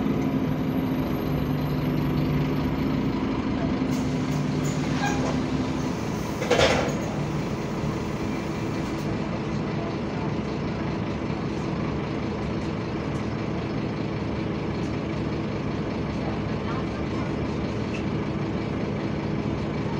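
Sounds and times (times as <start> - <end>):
bus engine idling: 0.0 - 19.9.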